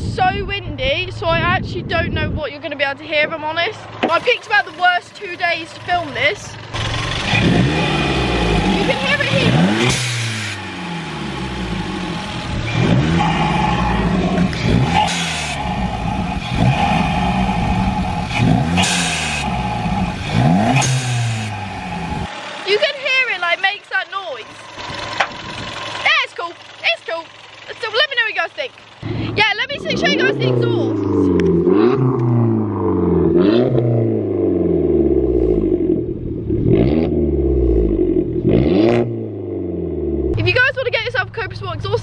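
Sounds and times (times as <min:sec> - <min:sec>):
car engine revving: 0:03.1 - 0:42.0.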